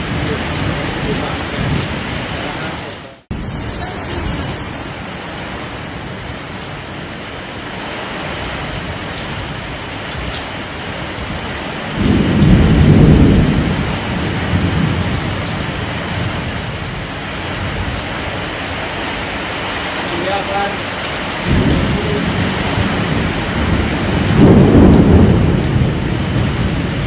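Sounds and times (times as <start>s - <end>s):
heavy rain pouring: 0.0s - 27.0s
thunder rumbling: 0.0s - 27.0s.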